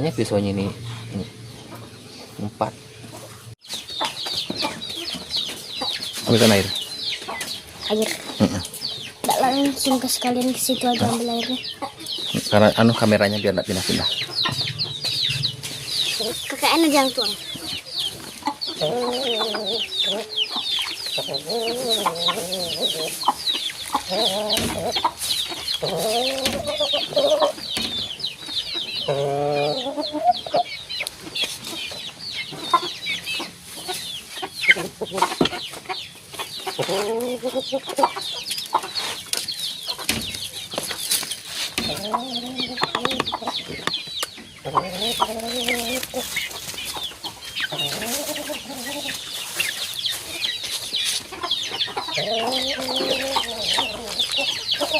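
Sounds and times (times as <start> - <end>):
chickens clucking: 0.0 - 54.9
chicks peeping: 0.0 - 54.9.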